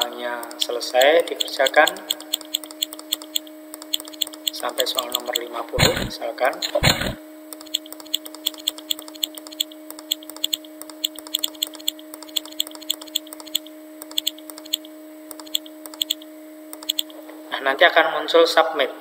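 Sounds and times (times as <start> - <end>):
low electrical hum: 0.0 - 19.0
computer mouse clicking: 0.4 - 17.1.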